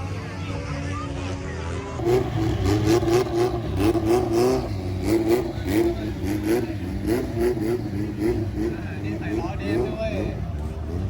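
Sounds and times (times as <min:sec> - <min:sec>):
car engine revving: 0:01.9 - 0:11.0.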